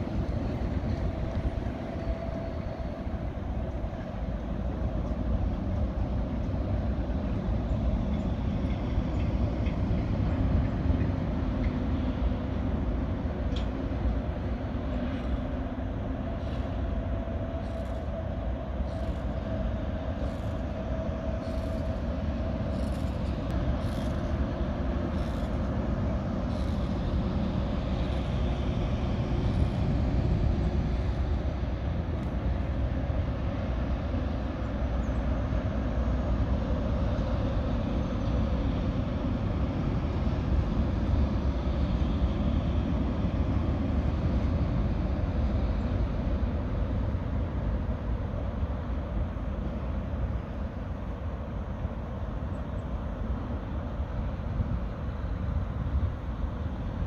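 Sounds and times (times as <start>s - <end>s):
low mechanical rumble: 0.0s - 57.0s.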